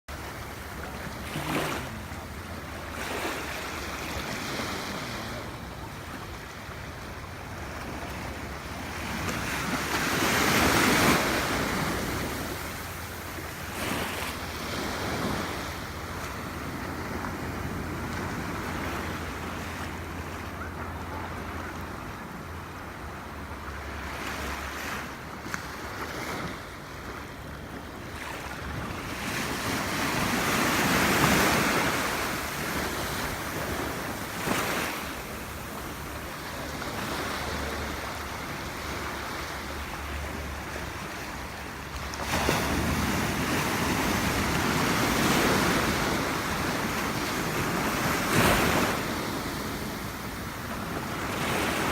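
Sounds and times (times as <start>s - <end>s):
small waves lapping on beach: 0.1s - 51.9s.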